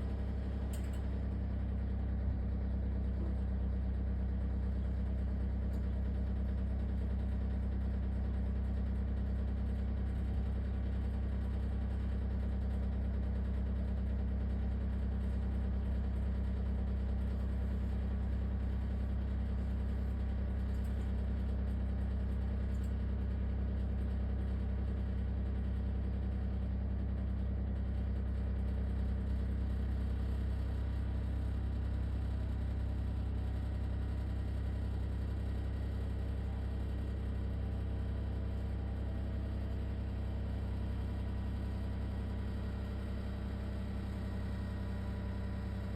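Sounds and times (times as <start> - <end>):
oven running with rattling drone: 0.0 - 45.9.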